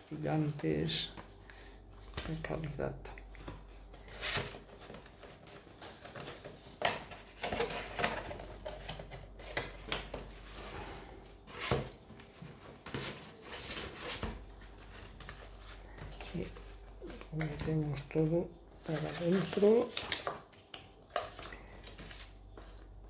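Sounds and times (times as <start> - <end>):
paper and cards rustling: 0.0 - 23.0.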